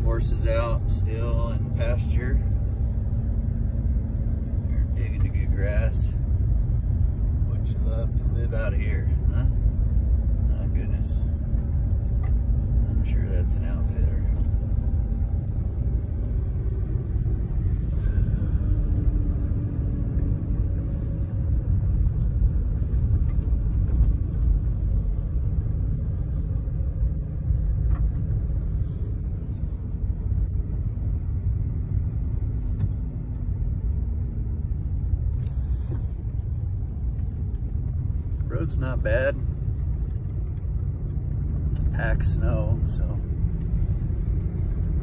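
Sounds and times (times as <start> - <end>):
vehicle engine hum: 0.0 - 45.0.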